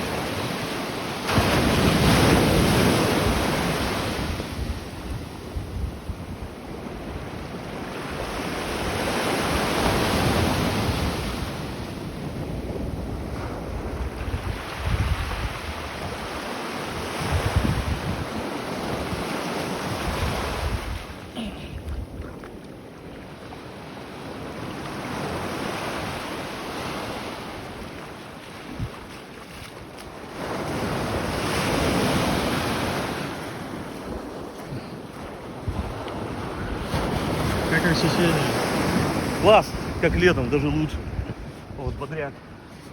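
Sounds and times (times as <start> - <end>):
sea waves washing in: 0.0 - 42.9
wind rumbling on microphone: 1.8 - 9.0, 9.8 - 24.6, 27.4 - 30.2, 31.0 - 42.9.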